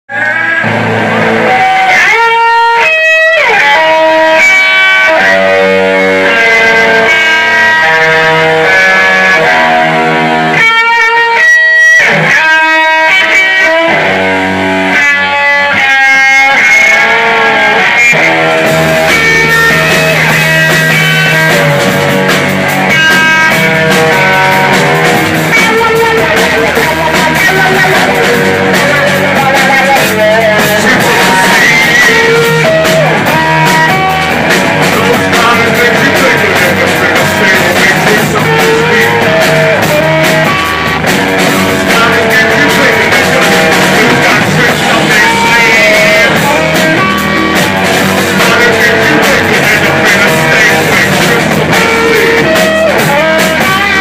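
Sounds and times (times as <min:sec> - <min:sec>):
electric guitar riff: 0:00.1 - 0:54.0
rock band playing loud: 0:00.1 - 0:54.0.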